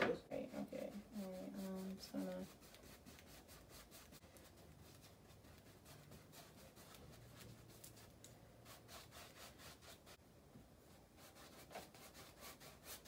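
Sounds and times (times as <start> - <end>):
paintbrush scrubbing on canvas: 0.3 - 10.2, 11.2 - 13.0.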